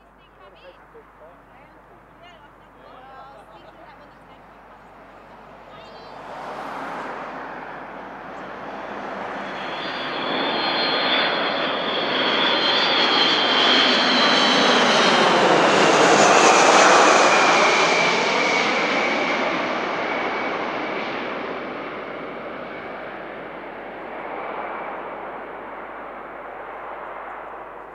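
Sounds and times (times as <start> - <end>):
jet engines roaring overhead: 3.2 - 27.9.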